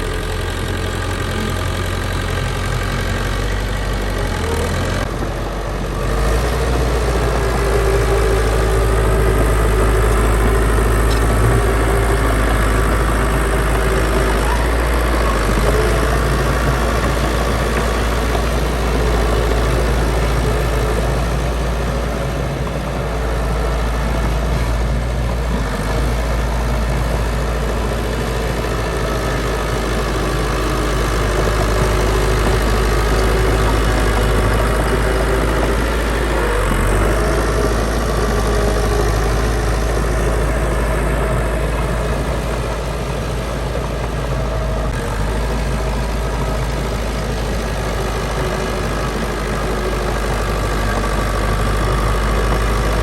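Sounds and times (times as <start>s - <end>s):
heavy diesel engine rumbling: 0.0s - 53.0s.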